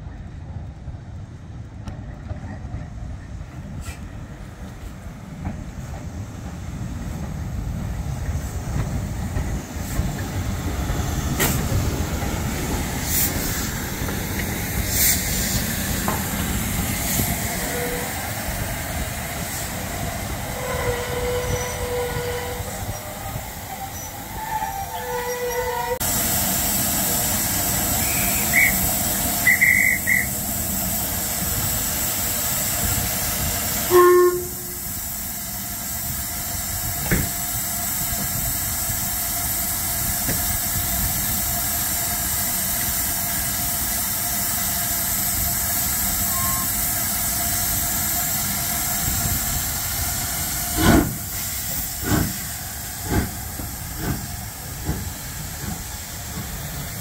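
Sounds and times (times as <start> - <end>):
steam locomotive exhaust beats: 3.0 - 57.0
steam hissing: 5.8 - 57.0.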